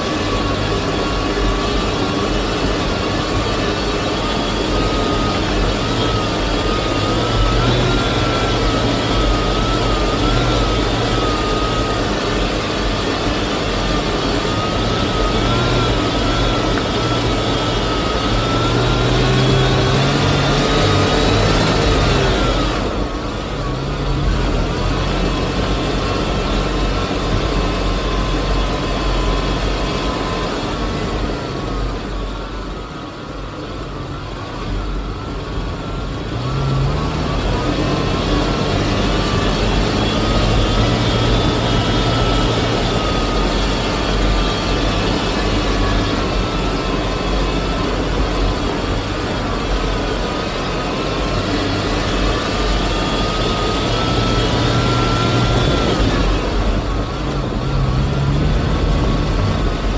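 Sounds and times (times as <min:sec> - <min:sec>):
car engine humming: 0:00.0 - 0:59.9
drone propellers whining: 0:00.0 - 0:59.9.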